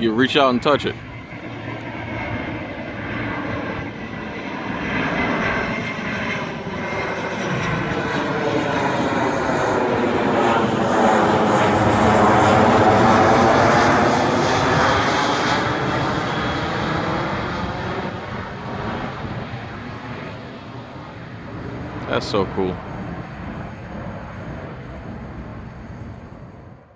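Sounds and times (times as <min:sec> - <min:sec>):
airplane flying low overhead: 0:00.0 - 0:26.9.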